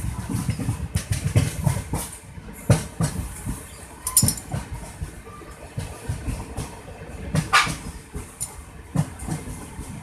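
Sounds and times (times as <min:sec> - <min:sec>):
train rumbling on rails: 0:00.0 - 0:10.0
wheels clattering over rail joints: 0:00.0 - 0:10.0.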